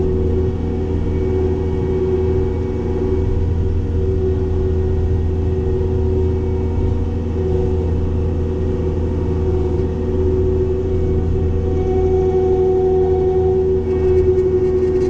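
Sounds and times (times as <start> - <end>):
brush cutter whine: 0.0 - 15.0
diesel engine running: 0.0 - 15.0.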